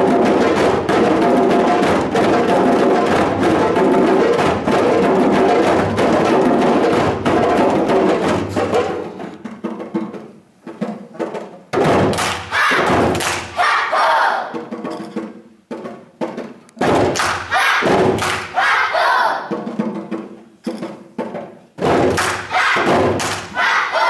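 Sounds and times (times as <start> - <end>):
djembe drums: 0.0 - 24.0.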